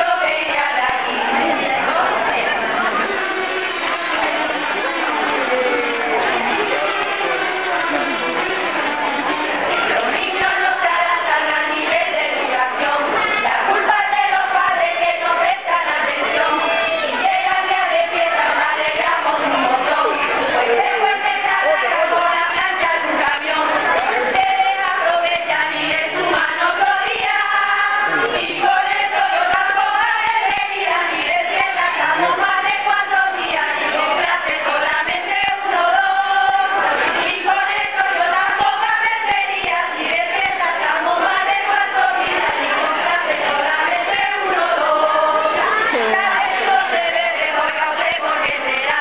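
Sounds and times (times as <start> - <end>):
group singing in chorus: 0.0 - 49.0.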